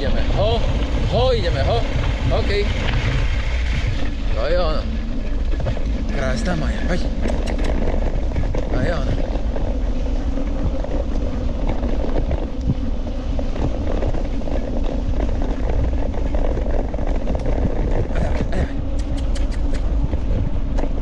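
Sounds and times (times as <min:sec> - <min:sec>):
scooter wheels rumbling on dirt: 0:00.0 - 0:21.0
wind on microphone: 0:00.0 - 0:21.0.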